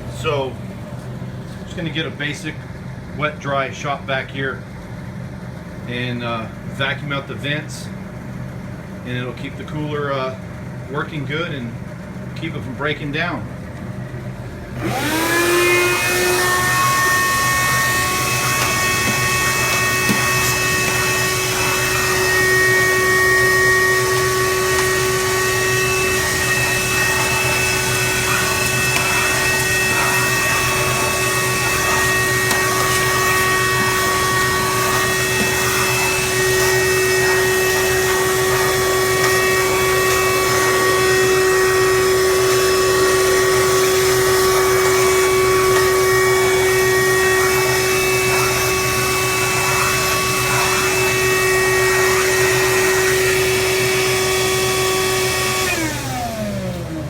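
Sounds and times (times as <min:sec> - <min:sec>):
shop vac motor whine: 0:00.0 - 0:57.0.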